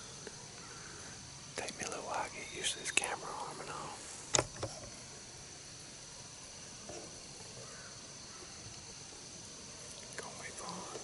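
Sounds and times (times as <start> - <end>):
woodland background: 0.0 - 11.0.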